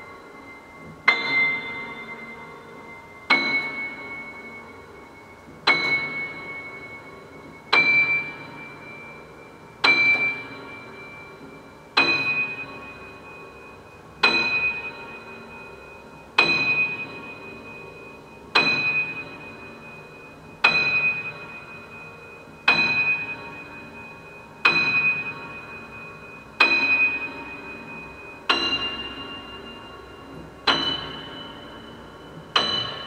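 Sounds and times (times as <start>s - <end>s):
piano chords ringing: 0.0s - 33.0s.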